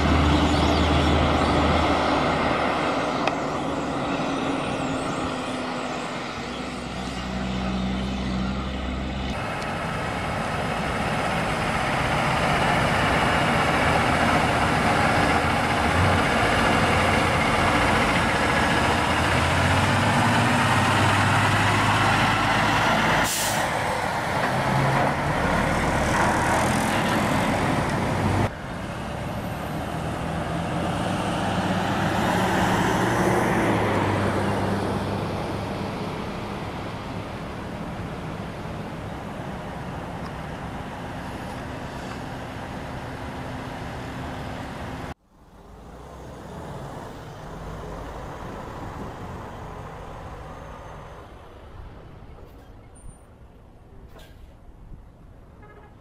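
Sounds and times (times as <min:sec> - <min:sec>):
diesel trucks driving by: 0:00.0 - 0:56.0
tyre and road noise: 0:00.0 - 0:56.0.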